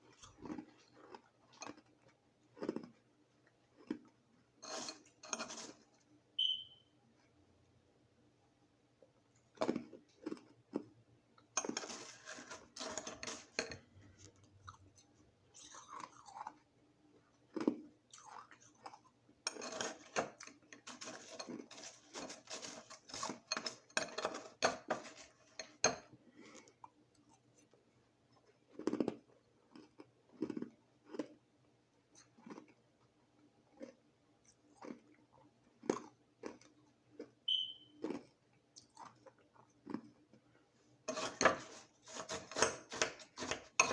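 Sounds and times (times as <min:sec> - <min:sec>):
chewing crunching ice: 0:00.0 - 0:06.0, 0:09.4 - 0:43.9.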